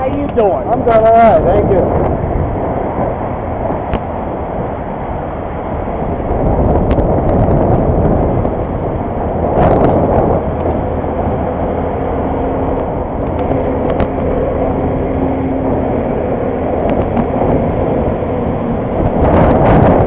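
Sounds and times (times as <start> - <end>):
wind and road rush: 0.0 - 20.0.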